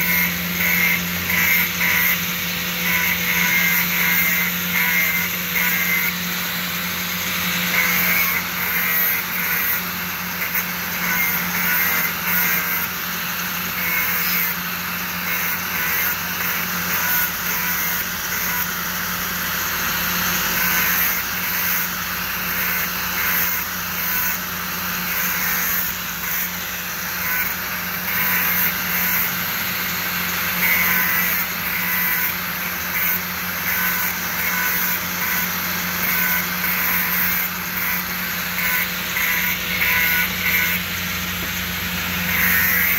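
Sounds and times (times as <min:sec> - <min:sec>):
angle grinder grinding metal: 0:00.0 - 0:42.9.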